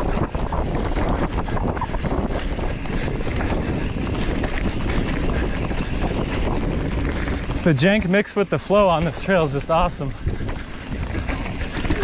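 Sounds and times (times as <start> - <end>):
bike clicks and rattles: 0.0 - 12.0
tyres rumbling on dirt trail: 0.0 - 12.0
wind rushing over microphone: 0.0 - 12.0.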